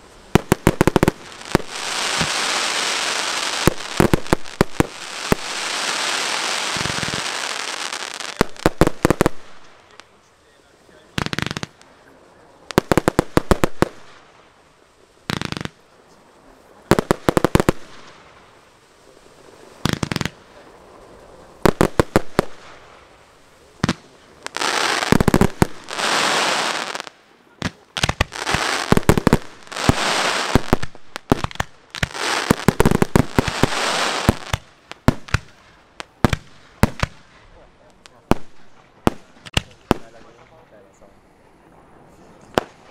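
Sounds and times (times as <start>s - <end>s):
fireworks crackling and hissing: 0.0s - 42.9s.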